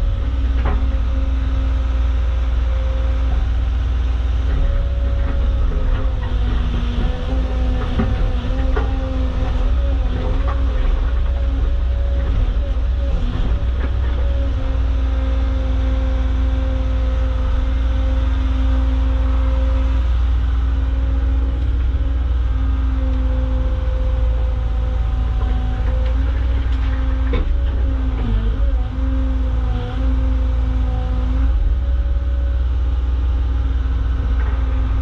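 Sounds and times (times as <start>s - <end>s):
excavator diesel engine whining: 0.0s - 35.0s.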